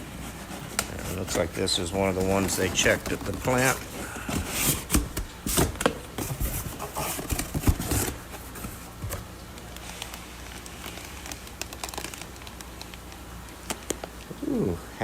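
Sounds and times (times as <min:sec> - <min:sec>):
plastic bags rustling: 0:00.0 - 0:14.1.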